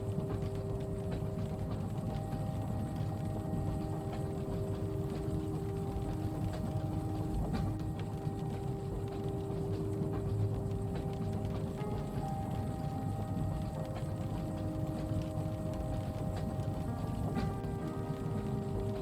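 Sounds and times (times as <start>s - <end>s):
light ticks of rain on window: 0.0s - 19.0s
steady tonal hum: 0.0s - 19.0s
train rumbling: 0.0s - 19.0s.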